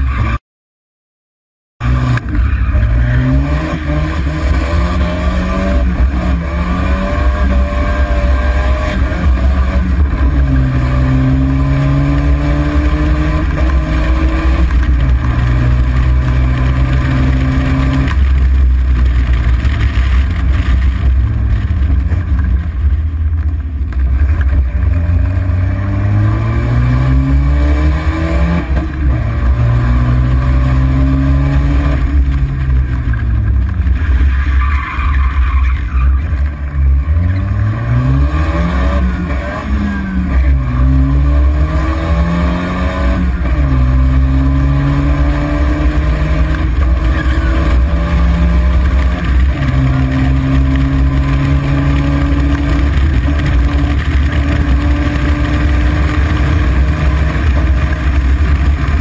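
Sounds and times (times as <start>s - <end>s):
road and wind rumble: 0.0s - 0.4s, 1.8s - 59.0s
car engine revving: 1.8s - 59.0s.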